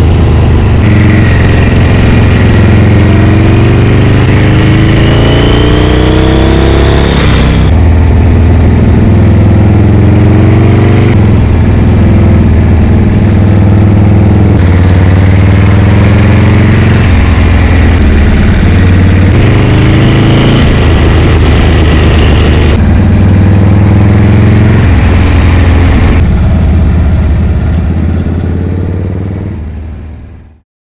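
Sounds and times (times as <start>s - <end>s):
wind noise: 0.0s - 28.8s
motorcycle engine running: 0.0s - 30.6s.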